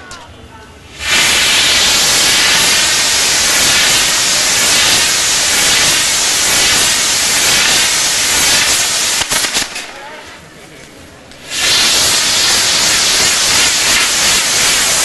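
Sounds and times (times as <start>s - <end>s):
fireworks fountain hissing: 0.4s - 15.0s
firework cracks: 0.9s - 15.0s.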